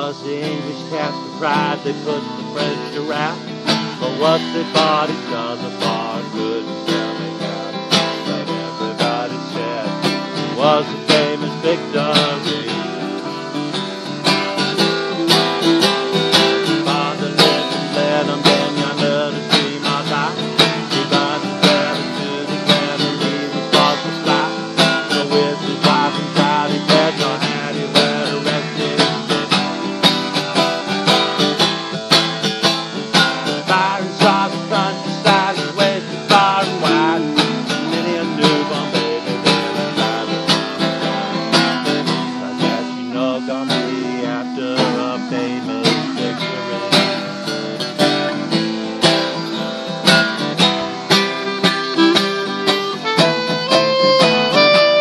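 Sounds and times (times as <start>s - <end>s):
acoustic guitars strumming: 0.0s - 55.0s
clarinet playing melody: 0.0s - 55.0s.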